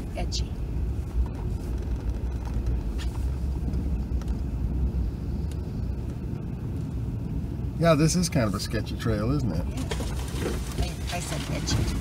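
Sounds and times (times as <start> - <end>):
engine and tyres rumbling: 0.0 - 12.0.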